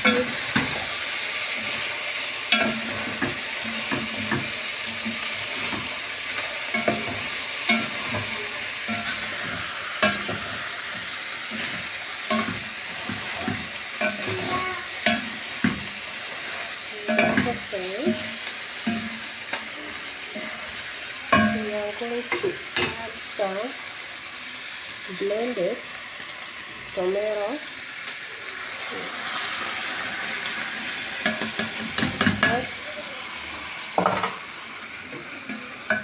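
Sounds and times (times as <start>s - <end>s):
chicken sizzling in oil: 0.0s - 36.0s.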